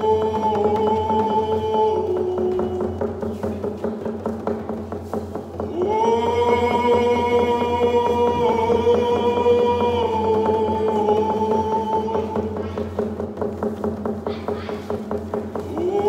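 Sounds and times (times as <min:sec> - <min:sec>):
frame drums beating fast: 0:00.0 - 0:16.0.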